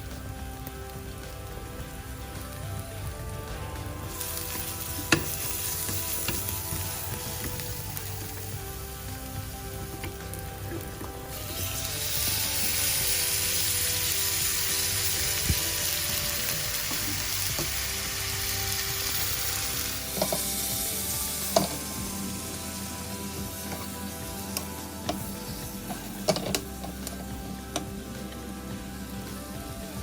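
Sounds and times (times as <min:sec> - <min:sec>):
soft background music: 0:00.0 - 0:30.0
food sizzling in hot oil: 0:00.1 - 0:30.0.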